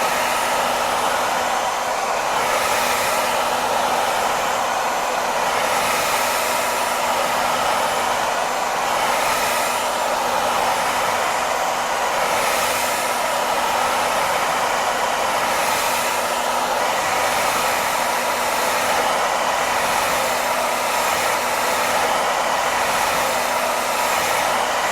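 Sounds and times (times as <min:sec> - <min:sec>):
hair dryer blowing air: 0:00.0 - 0:24.9.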